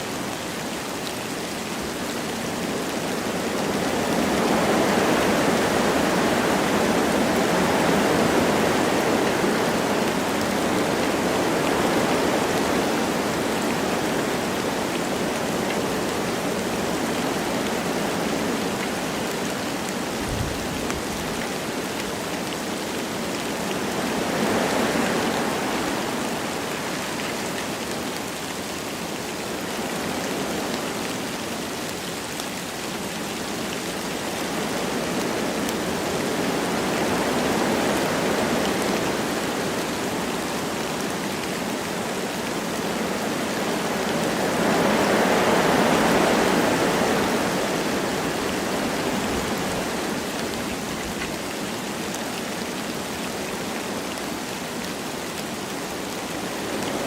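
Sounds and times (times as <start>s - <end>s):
light rain falling: 0.0s - 57.0s
wind through trees: 0.0s - 57.0s.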